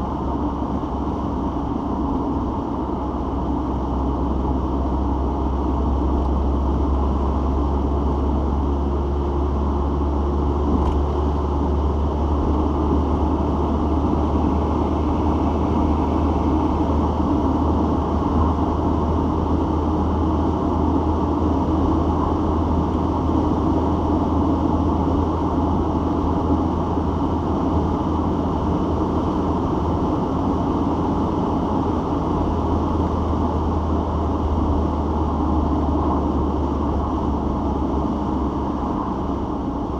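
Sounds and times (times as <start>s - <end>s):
car engine and road rumble drone: 0.0s - 39.9s.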